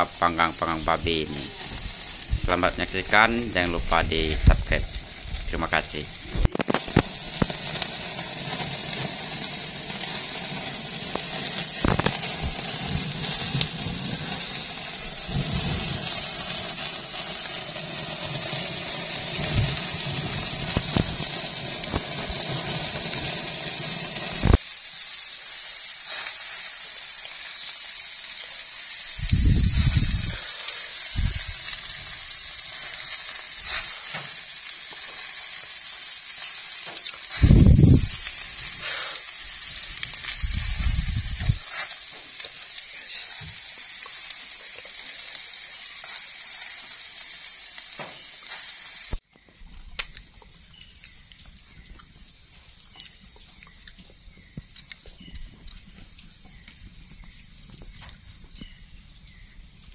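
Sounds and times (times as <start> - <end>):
wood fire crackling: 0.0 - 49.3, 49.9 - 59.9
meat sizzling on grill: 0.0 - 49.5, 51.0 - 59.9.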